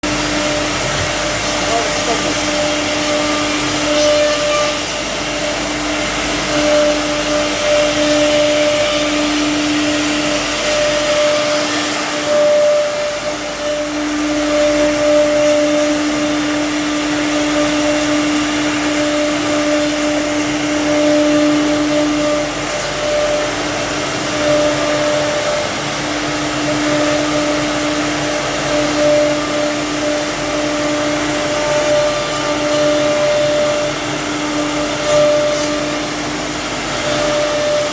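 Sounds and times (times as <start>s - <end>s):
router spindle whine: 0.0s - 37.9s.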